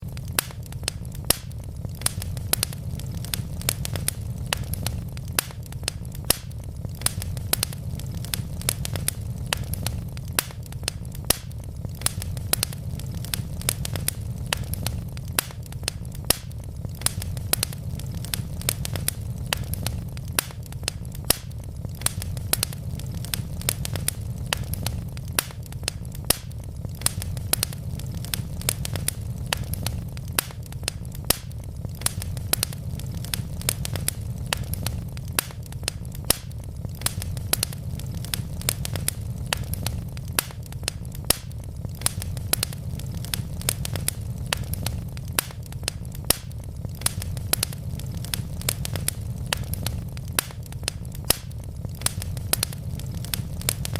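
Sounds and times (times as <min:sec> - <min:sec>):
fire popping: 0:00.0 - 0:53.9
fireplace logs crackling: 0:00.0 - 0:53.9.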